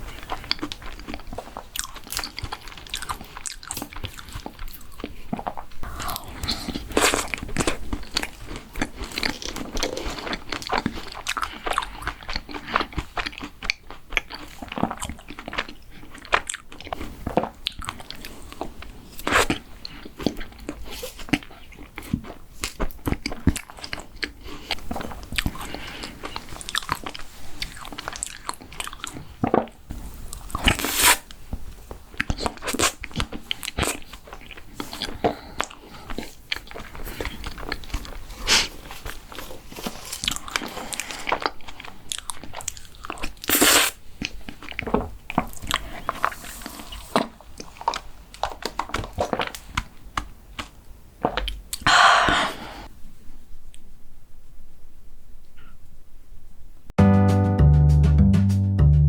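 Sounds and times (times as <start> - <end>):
person crunching and chewing: 0.0 - 52.9.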